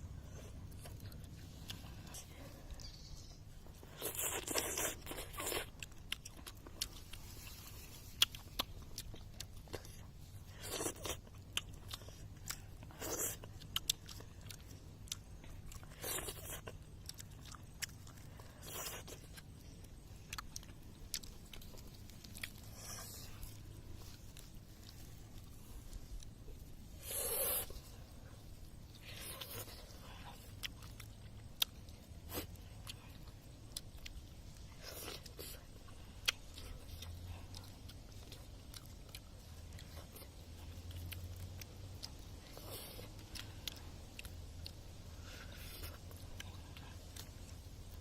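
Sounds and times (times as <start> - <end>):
person biting and chewing: 0.2 - 48.0
small crunches: 0.2 - 48.0.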